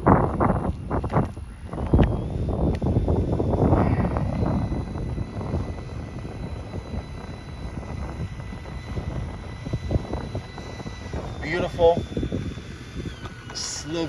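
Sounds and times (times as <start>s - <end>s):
model jet engine whine: 0.0s - 14.0s
wind noise: 0.0s - 14.0s.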